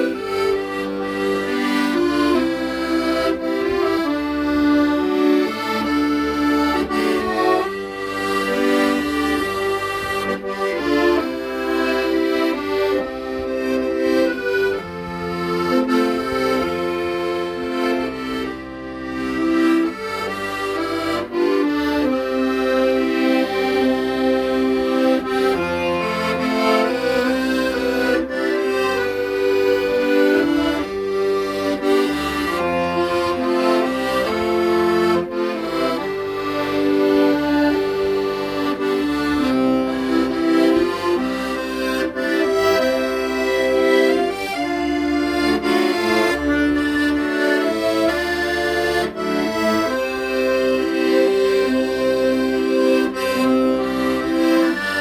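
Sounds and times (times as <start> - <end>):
accordion playing slow melody: 0.0 - 55.0.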